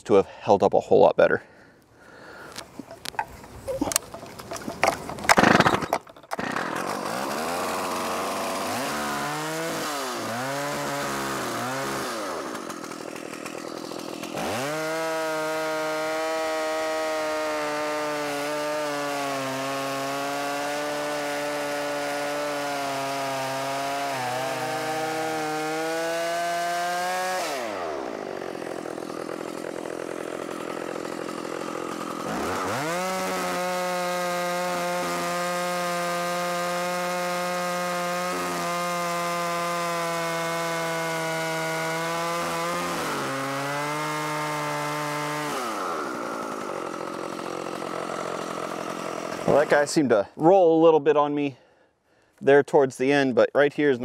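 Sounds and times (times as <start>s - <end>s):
chainsaw pull-started and revving: 2.0s - 50.0s
chainsaw ripping a log: 2.2s - 50.1s.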